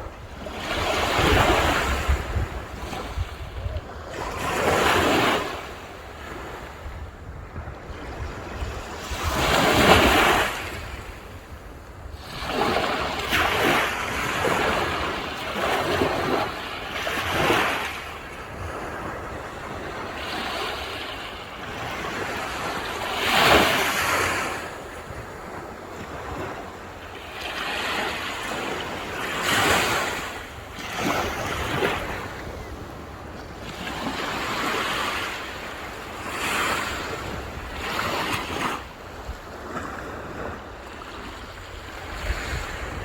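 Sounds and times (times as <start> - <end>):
sea waves breaking on shore: 0.0 - 43.0.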